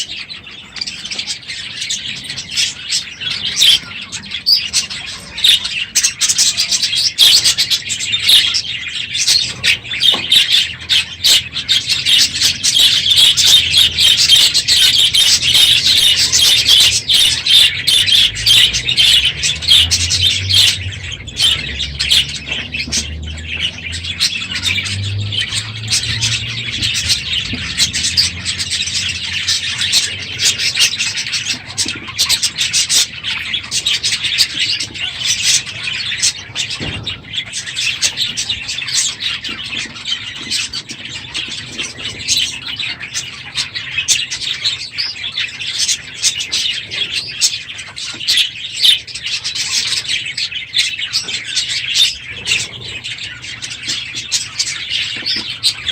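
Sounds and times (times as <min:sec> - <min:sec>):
flock of budgerigars chattering: 0:00.0 - 0:55.9.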